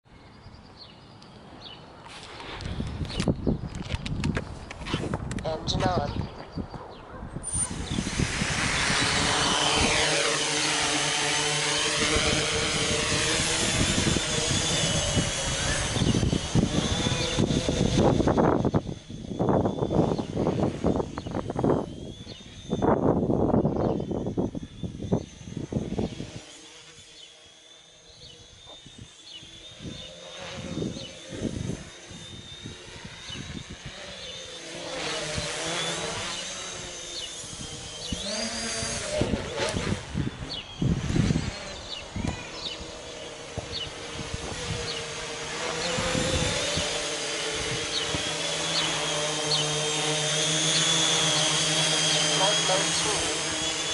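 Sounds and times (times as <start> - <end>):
drone motors whining: 0.1 - 53.9.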